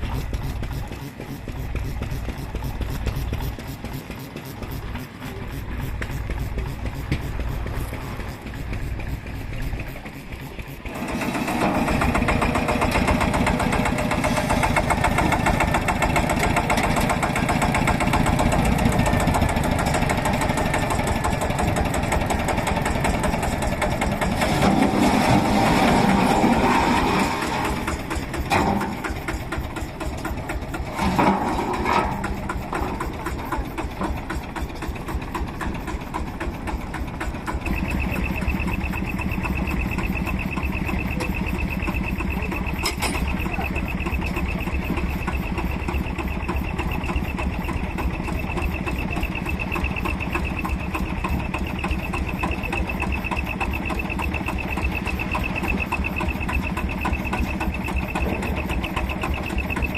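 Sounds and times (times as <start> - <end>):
stationary engines clattering: 0.0 - 59.9
steady high whine: 0.0 - 59.9.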